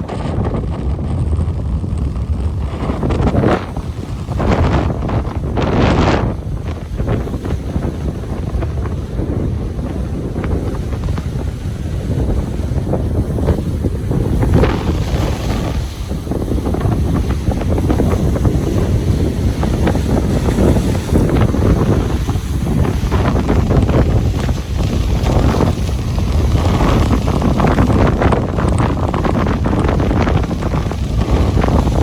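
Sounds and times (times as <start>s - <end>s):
ocean waves washing on beach: 0.0s - 32.0s
wind buffeting microphone: 0.0s - 32.0s.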